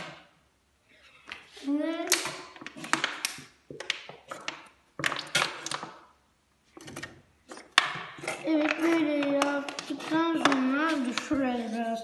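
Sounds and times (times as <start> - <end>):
objects being handled: 0.9 - 12.0.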